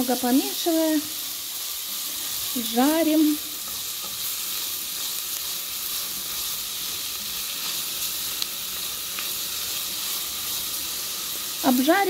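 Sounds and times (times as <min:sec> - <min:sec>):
onions frying in butter: 0:00.0 - 0:12.0.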